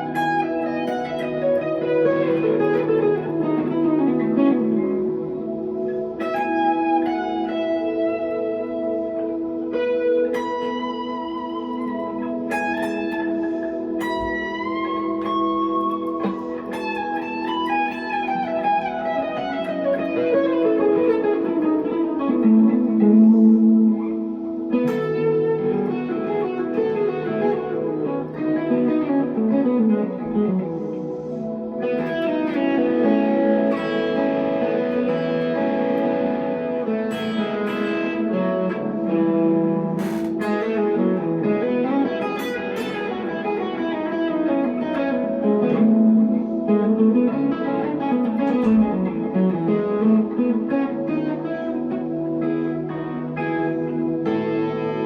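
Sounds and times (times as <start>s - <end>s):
electric guitar melody: 0.0s - 55.0s.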